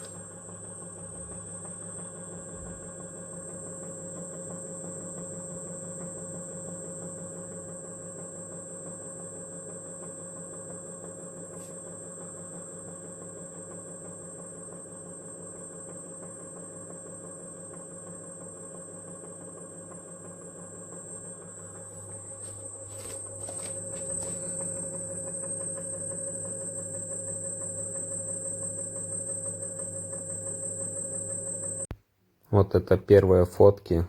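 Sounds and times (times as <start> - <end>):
electric scooter motor whine: 0.0 - 31.9.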